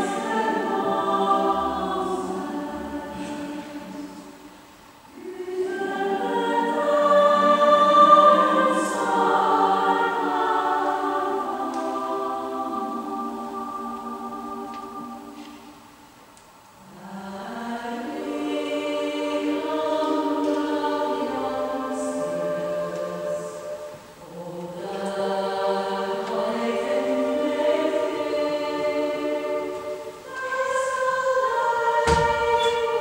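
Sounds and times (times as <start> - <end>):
women's choir singing in church: 0.0 - 33.0.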